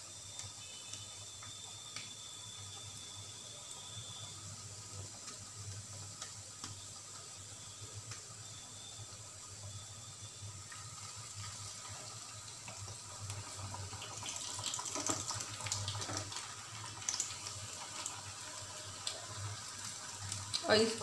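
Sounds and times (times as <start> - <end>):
deep-frying sizzle with crackling: 0.0 - 21.0.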